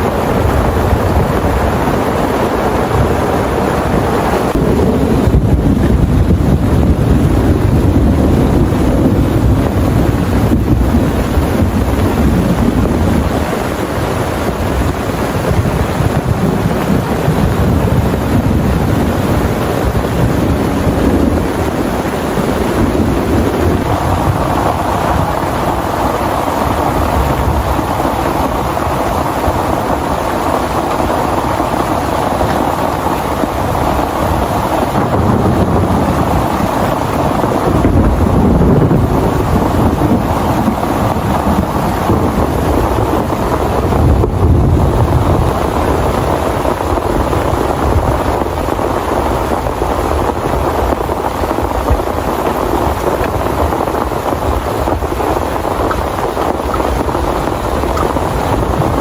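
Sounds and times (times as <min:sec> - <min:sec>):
deep rumble: 0:00.0 - 0:52.2
heavy rain pouring: 0:00.0 - 0:59.0.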